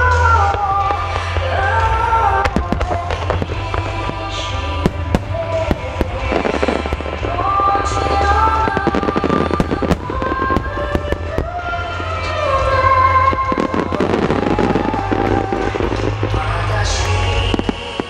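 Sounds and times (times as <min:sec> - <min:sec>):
fireworks bangs and cracks: 0:00.0 - 0:18.0
low rumble: 0:00.0 - 0:18.0
melodic music: 0:00.0 - 0:18.0.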